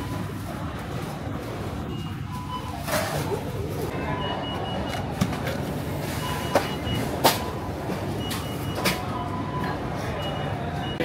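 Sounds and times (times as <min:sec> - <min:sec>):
food court din: 0:00.0 - 0:11.0.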